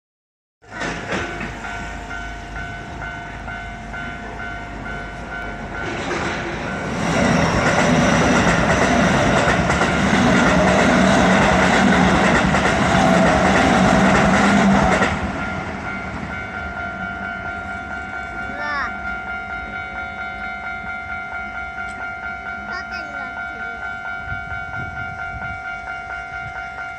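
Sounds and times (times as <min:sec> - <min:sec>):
level crossing warning bell: 0:00.6 - 0:26.9
train passing: 0:00.6 - 0:26.9.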